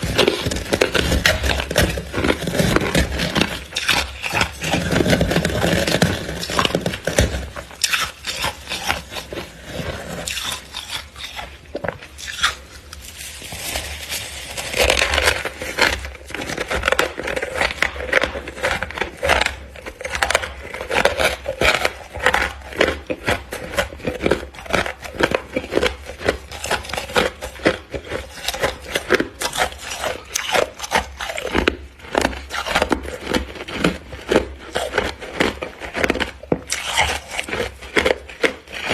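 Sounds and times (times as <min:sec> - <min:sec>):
freezer frost crunching and scraping: 0:00.0 - 0:38.9.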